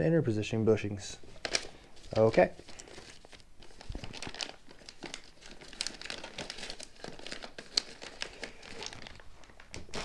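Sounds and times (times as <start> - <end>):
plastic bags crinkling: 1.3 - 10.0.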